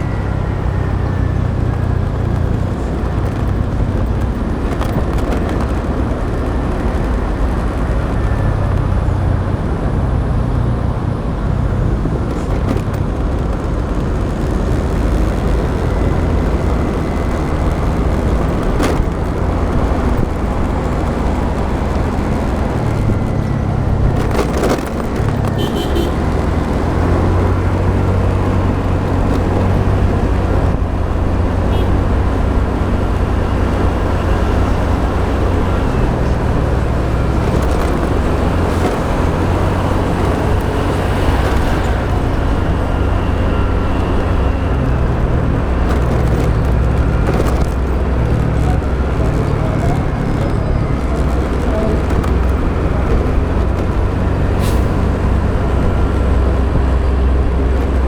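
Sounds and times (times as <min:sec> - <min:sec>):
motorbike engine: 0:00.0 - 0:58.0
wind on microphone: 0:00.0 - 0:58.0.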